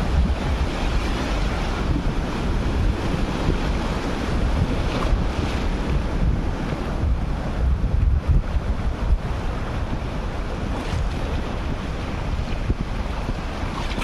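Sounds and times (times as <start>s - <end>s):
sea surf breaking: 0.0s - 14.0s
wind buffeting microphone: 0.0s - 14.0s.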